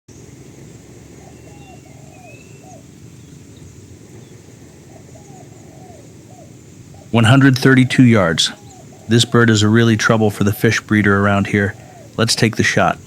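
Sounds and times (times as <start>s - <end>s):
low background rush: 0.1s - 13.0s
small birds chirping: 0.1s - 13.0s
dove cooing: 0.4s - 12.3s.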